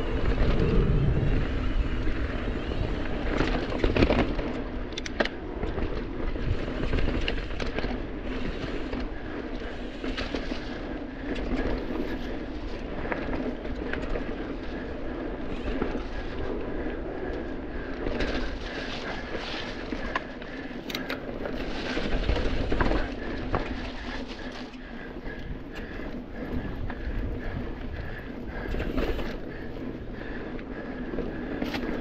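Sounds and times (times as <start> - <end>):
bike rattling and knocking: 0.0 - 32.0
bike tyres on dirt trail: 0.0 - 32.0.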